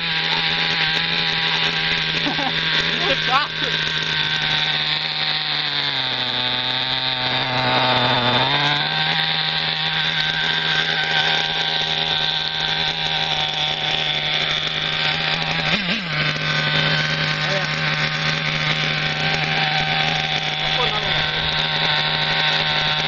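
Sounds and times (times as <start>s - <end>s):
nitro engine of toy buggy: 0.0s - 23.0s.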